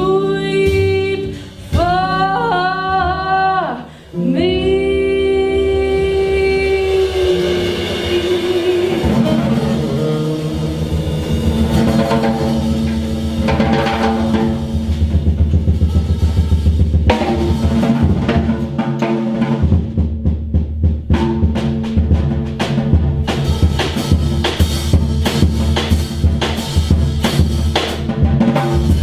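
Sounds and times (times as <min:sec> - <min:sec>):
drum kit: 0:00.0 - 0:29.0
jazz band playing: 0:00.0 - 0:29.0.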